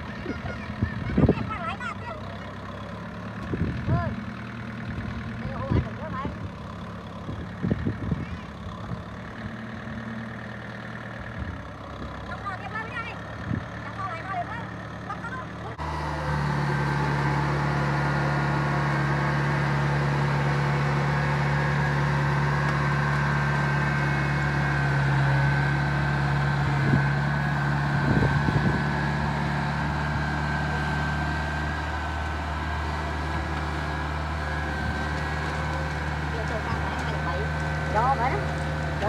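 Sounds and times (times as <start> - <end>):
harvester engine running: 0.0 - 39.0.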